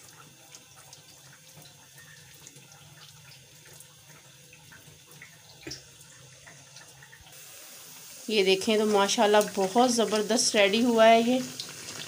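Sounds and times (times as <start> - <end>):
bread deep-frying in oil: 0.0 - 12.0
small oil crackles: 0.0 - 12.0.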